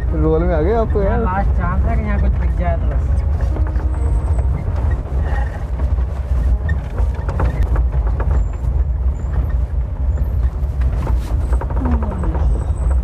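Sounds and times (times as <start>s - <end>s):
rattles and knocks: 0.0s - 13.0s
vehicle rumbling on rough track: 0.0s - 13.0s.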